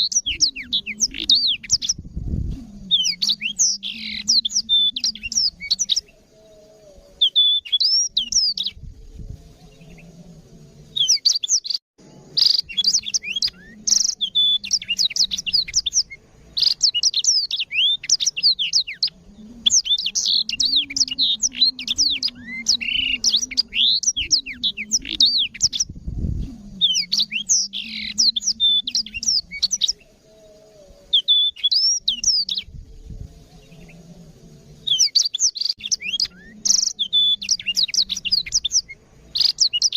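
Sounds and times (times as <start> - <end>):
canary singing high trills: 0.0 - 10.2, 10.9 - 34.0, 34.7 - 39.9.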